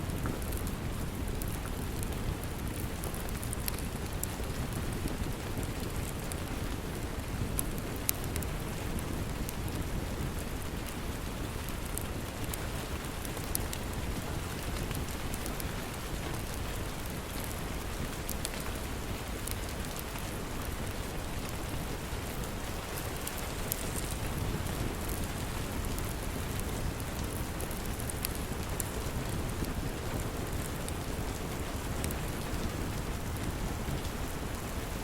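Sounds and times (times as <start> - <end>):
steady rain: 0.0 - 35.0
wood fire crackling and popping: 0.0 - 35.0.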